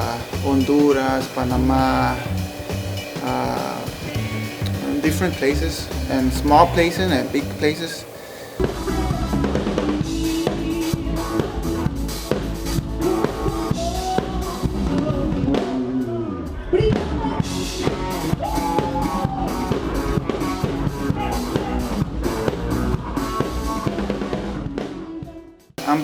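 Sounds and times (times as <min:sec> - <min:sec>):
band music with drum kit: 0:00.0 - 0:26.0.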